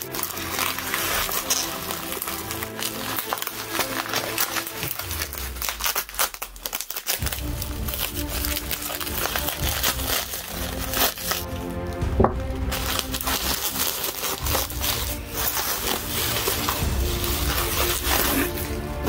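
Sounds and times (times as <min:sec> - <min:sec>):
background music with held notes: 0:00.0 - 0:19.0
bubble wrap crinkling: 0:00.0 - 0:19.0.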